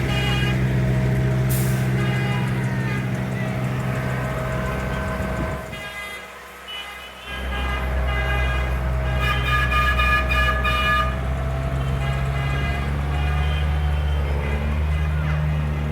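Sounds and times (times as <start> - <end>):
tractor engines droning: 0.0 - 15.9
vehicle horn tooting: 0.0 - 15.9.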